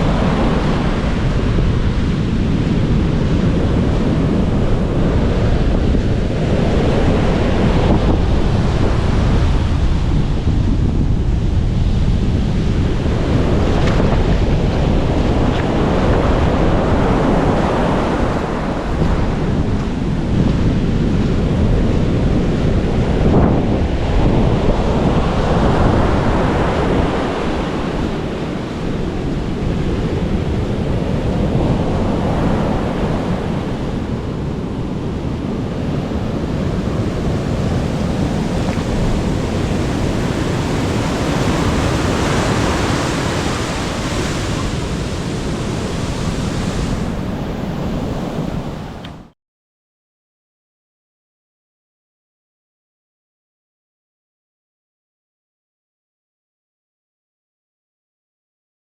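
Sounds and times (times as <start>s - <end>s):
ocean surf breaking: 0.0s - 49.3s
wind rumbling on microphone: 0.0s - 49.3s.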